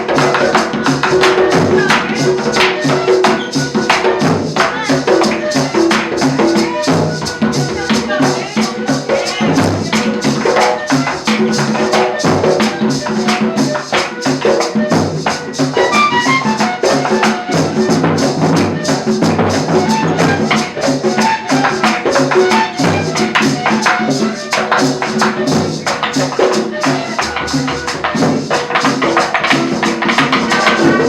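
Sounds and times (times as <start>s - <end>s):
live band playing cumbia: 0.0s - 31.0s
shaken percussion: 0.0s - 31.0s.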